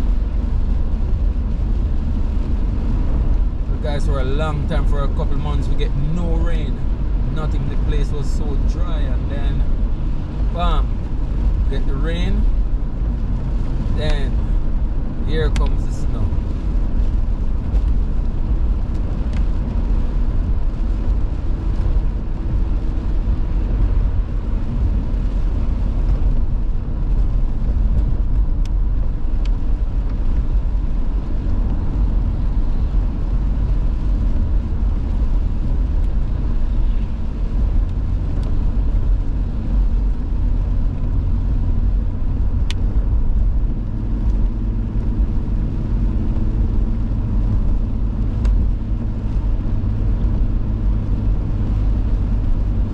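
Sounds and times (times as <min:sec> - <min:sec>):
car interior road and engine noise: 0:00.0 - 0:52.9.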